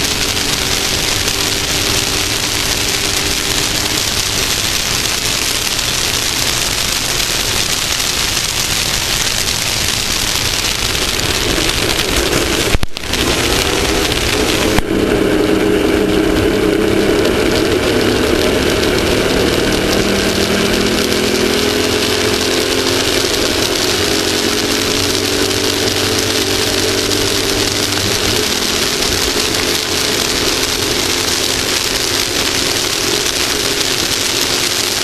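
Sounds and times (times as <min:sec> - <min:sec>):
race vehicle engine running: 0:00.0 - 0:35.0
wind and terrain noise: 0:00.0 - 0:35.0.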